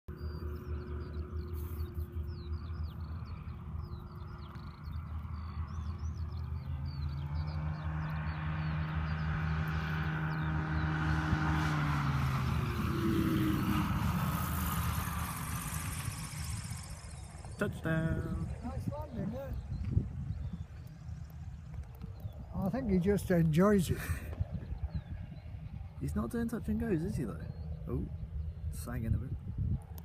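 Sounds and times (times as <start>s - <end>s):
small bird chirping: 0.1s - 11.7s, 12.6s - 29.3s
propeller aircraft engine: 0.1s - 30.0s
wind buffeting microphone: 0.1s - 30.0s.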